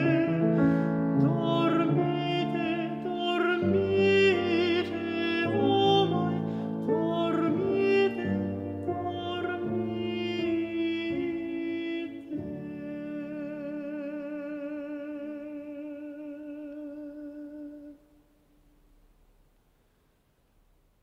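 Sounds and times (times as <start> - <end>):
piano accompaniment: 0.0 - 17.9
countertenor singing: 0.0 - 18.0.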